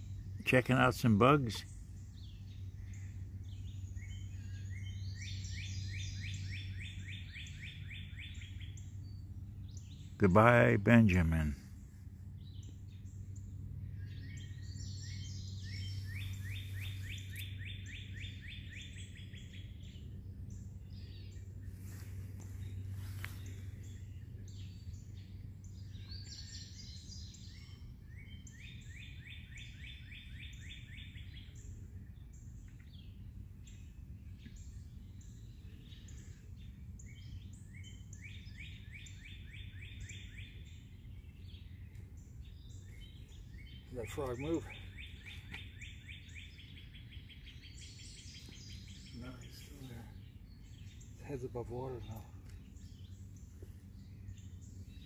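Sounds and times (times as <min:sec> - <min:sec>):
songbird singing trills: 0:00.0 - 0:55.0
steady low hum: 0:00.0 - 0:55.0.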